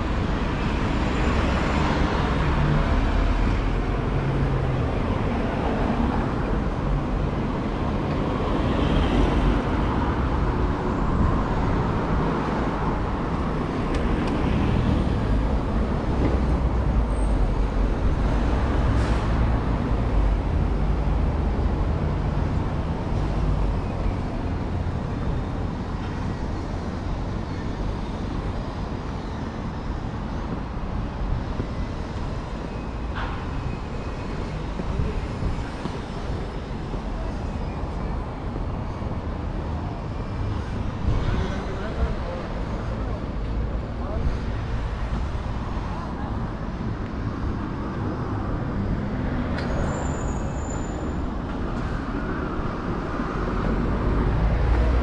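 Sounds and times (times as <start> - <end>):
engine rumble and tyre noise: 0.0 - 55.0.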